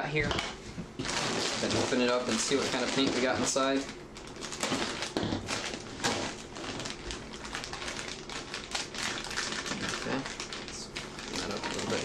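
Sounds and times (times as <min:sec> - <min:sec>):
plastic bag crinkling: 0:01.0 - 0:12.0.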